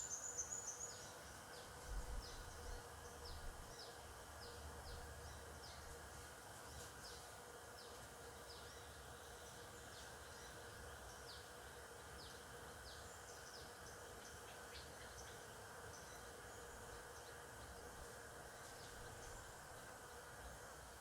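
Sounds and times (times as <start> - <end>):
faint outdoor ambience: 0.0 - 21.0
thin steady hum: 0.0 - 21.0.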